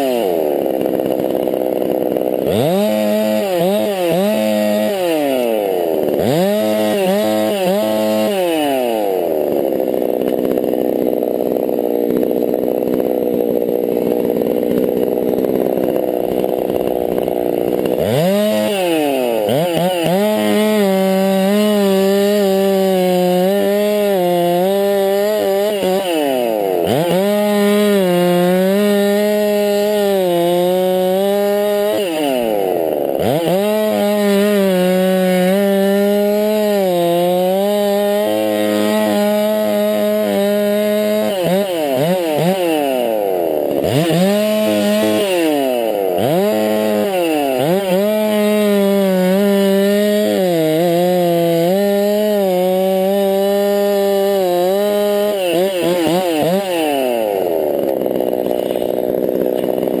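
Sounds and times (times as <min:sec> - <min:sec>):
chainsaw cutting log: 0:00.0 - 1:00.0.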